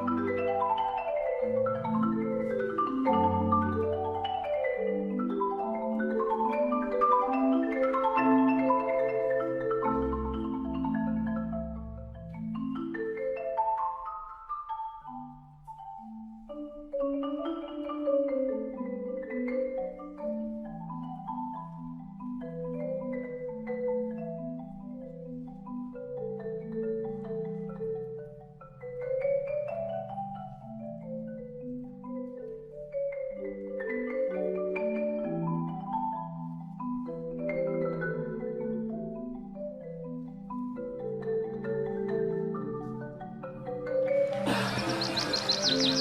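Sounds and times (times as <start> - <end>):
mallet percussion melody: 0.0 - 46.0.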